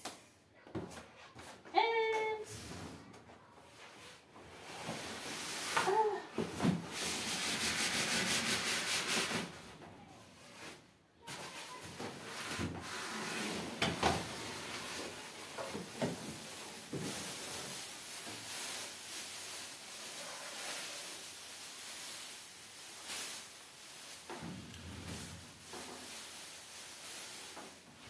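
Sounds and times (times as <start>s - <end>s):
plastic wrapping rustling: 3.7s - 9.6s, 10.3s - 28.0s.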